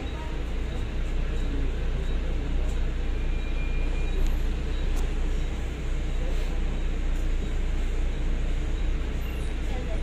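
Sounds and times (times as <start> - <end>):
bus diesel engine rumbling: 0.0 - 10.0
road and body noise: 0.0 - 10.0.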